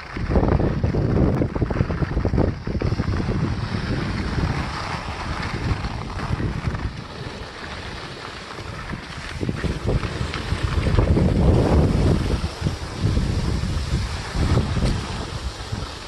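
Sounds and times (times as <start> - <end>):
skis sliding on snow: 0.0 - 16.0
wind buffeting microphone: 0.0 - 16.0.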